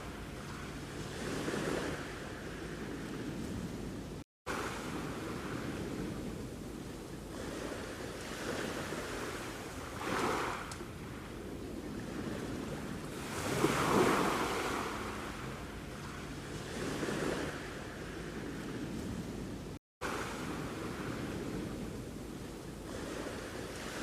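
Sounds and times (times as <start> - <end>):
sea waves washing onto shore: 0.0 - 24.0.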